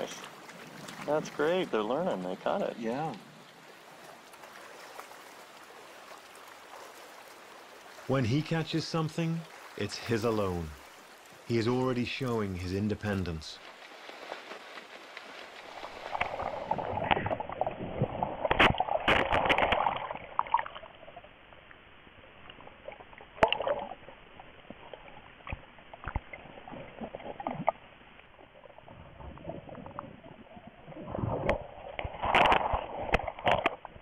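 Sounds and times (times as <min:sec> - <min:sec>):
water splashing: 0:00.0 - 0:34.0.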